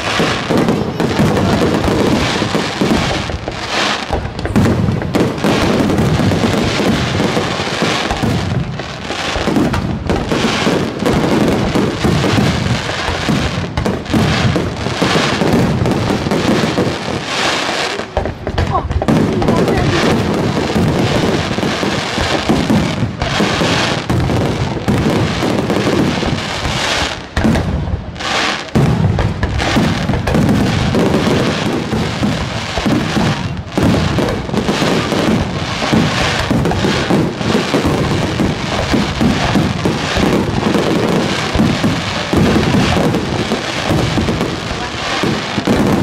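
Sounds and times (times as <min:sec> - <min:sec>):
firework crackle: 0:00.0 - 0:46.0
rising firework comets: 0:00.0 - 0:46.0.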